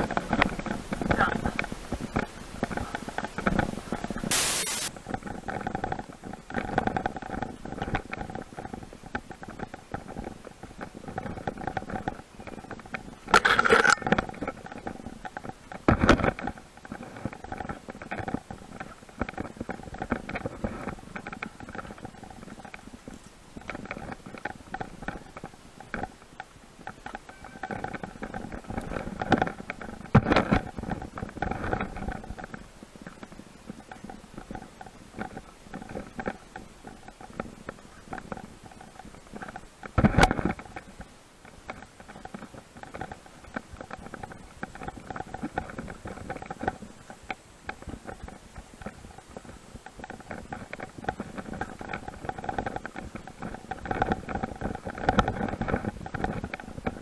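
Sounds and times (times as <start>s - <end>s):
bicycle jolts: 0.0s - 57.0s.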